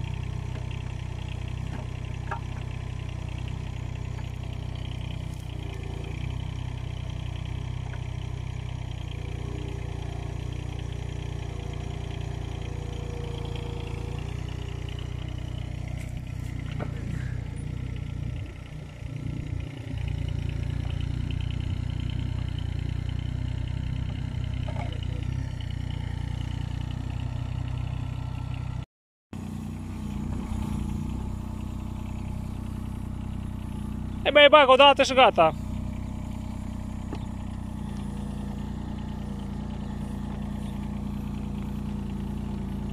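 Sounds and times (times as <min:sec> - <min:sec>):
diesel engine running: 0:00.0 - 0:28.8, 0:29.4 - 0:42.9.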